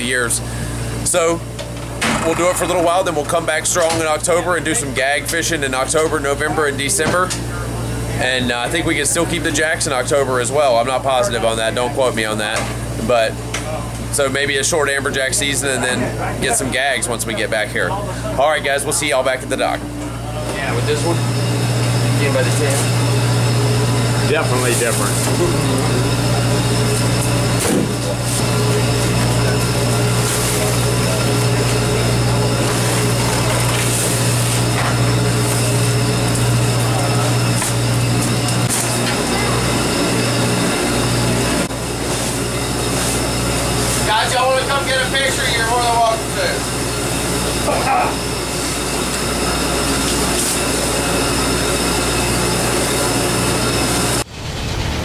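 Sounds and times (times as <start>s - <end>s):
boat engines droning: 0.0s - 55.0s.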